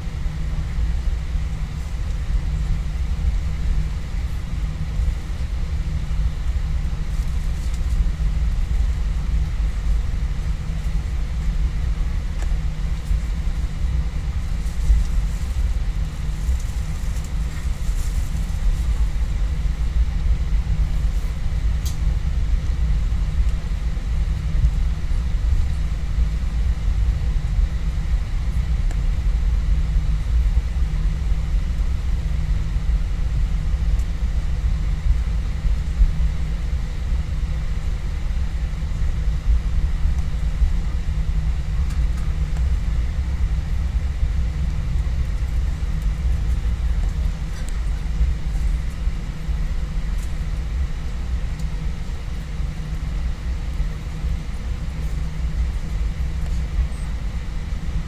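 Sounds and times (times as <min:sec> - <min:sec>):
faint steady whine: 0:00.0 - 0:58.0
jet engine low rumble: 0:00.0 - 0:58.0.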